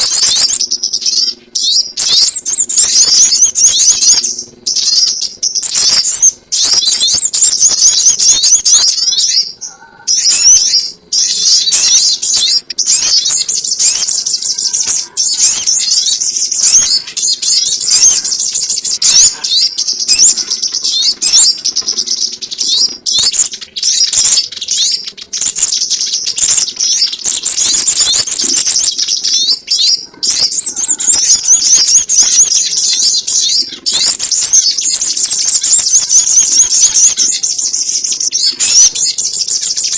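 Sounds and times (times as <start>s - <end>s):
faint steady hum: 0.0s - 39.9s
high-pitched bird chirping: 0.0s - 39.9s.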